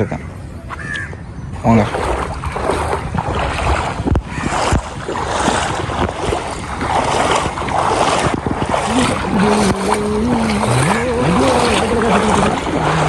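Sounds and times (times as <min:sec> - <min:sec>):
floodwater rushing: 0:00.0 - 0:13.0
wind gusting on microphone: 0:00.0 - 0:13.0.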